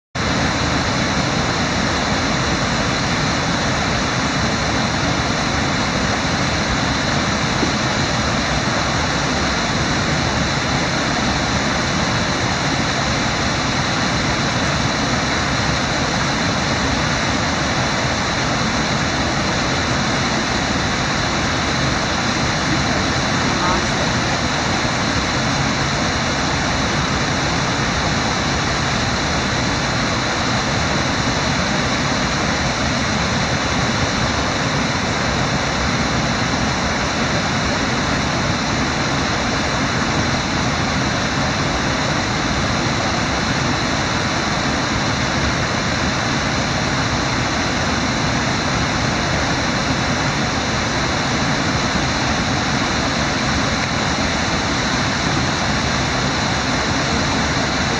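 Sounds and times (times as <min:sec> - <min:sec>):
river water rushing through rapids: 0:00.2 - 0:57.9.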